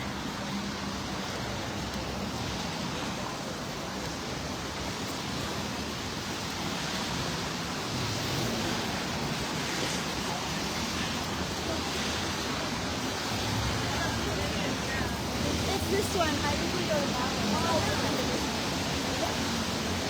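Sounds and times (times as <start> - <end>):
city street noise on wet streets: 0.0 - 20.0.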